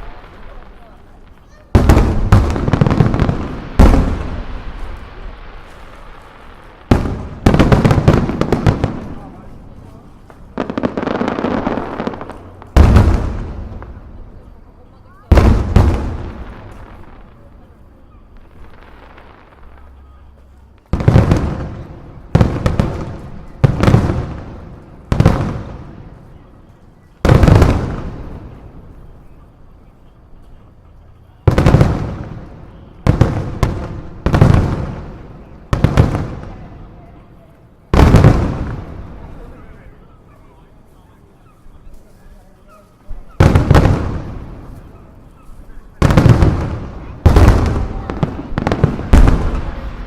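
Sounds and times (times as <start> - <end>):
fireworks booming: 0.0 - 42.1, 42.7 - 50.0
fireworks crackling: 0.0 - 50.0.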